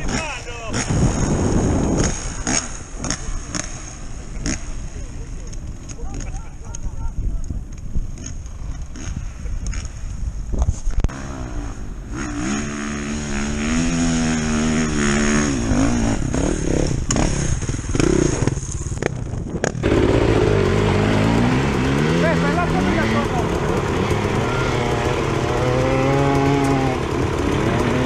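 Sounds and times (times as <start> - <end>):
motorcycle engine revving: 0.0 - 6.8, 8.1 - 10.3, 10.9 - 28.0.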